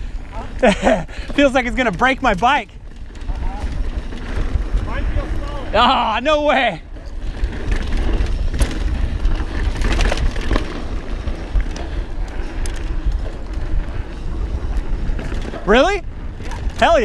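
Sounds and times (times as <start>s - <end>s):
bike clicks and clatter: 0.0s - 17.0s
tyre and wind rumble: 0.0s - 17.0s.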